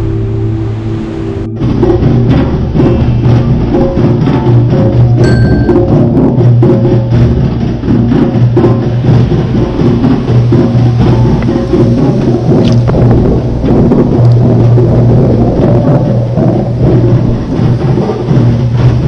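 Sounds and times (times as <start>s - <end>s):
background music with percussive beat: 1.5s - 19.0s.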